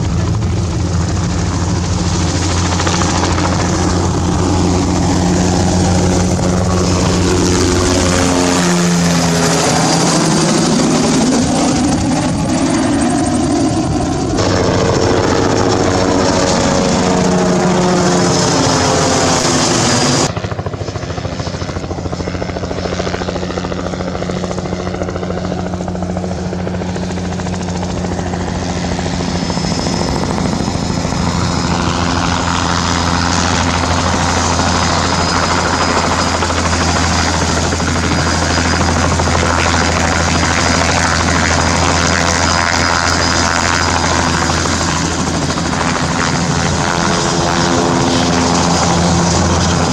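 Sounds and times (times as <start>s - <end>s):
helicopter flying past: 0.0s - 49.9s
low helicopter rotor beat: 0.0s - 49.9s.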